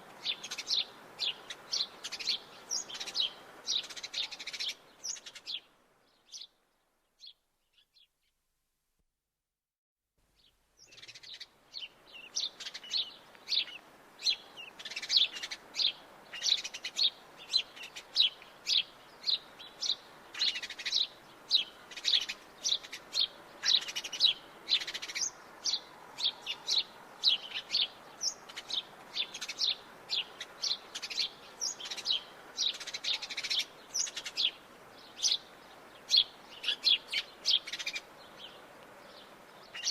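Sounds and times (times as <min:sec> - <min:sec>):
sparrows chirping: 0:00.0 - 0:08.1, 0:10.4 - 0:39.9.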